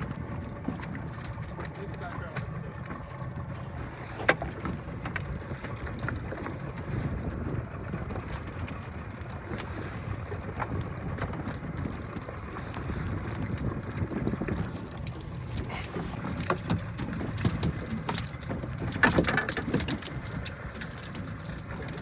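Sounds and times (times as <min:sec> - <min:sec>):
knocks and clicks on a boat: 0:00.0 - 0:22.0
low rumble of wind and water: 0:00.0 - 0:22.0.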